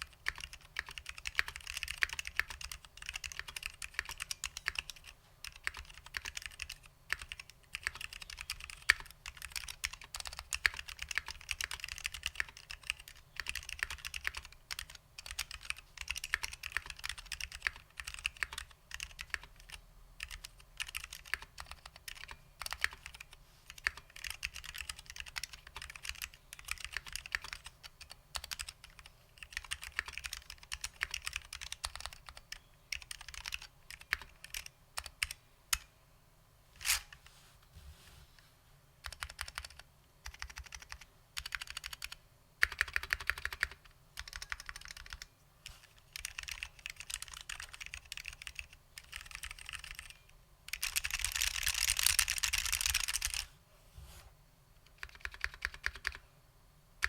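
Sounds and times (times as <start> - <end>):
clicky keyboard typing: 0.0 - 35.9, 39.0 - 53.5, 54.8 - 56.2.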